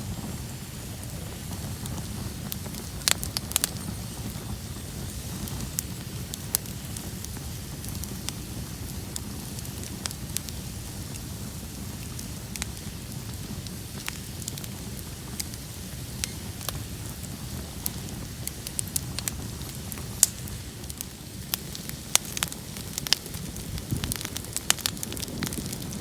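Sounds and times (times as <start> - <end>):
bonfire flames rumbling: 0.0 - 26.0
fire popping and crackling: 0.0 - 26.0.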